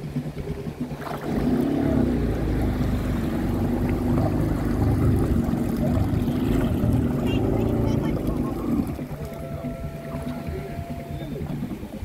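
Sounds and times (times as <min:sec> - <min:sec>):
jet ski engine running: 0:00.0 - 0:12.0
water rushing along hull: 0:00.0 - 0:12.0.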